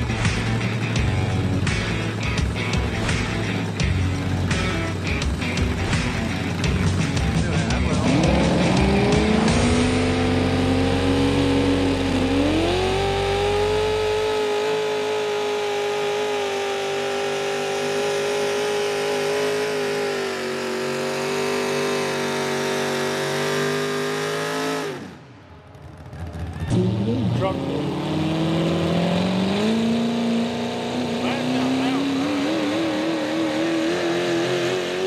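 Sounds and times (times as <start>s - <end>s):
engine at full throttle: 0.0s - 35.0s.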